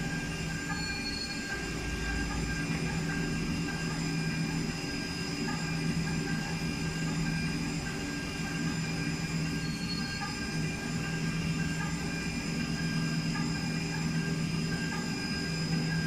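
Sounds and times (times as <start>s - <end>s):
milling machine spindle whining: 0.0s - 16.0s.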